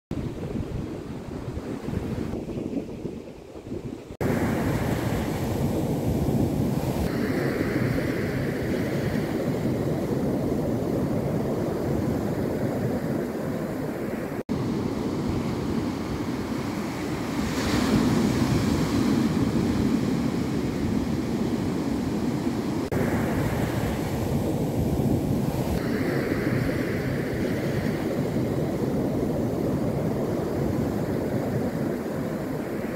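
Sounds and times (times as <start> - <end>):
surf washing up a beach: 4.2 - 32.9.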